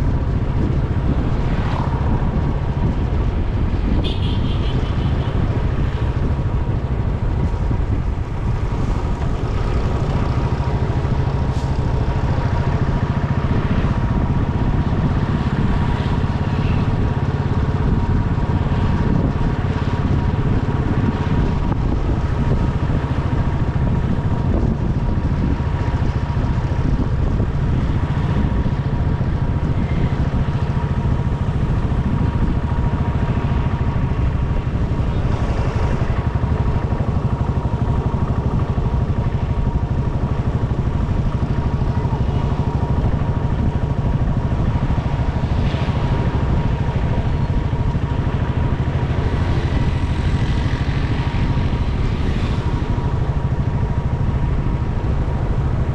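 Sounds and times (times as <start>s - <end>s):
motorcycle engine running: 0.0s - 55.9s
road noise: 0.0s - 55.9s.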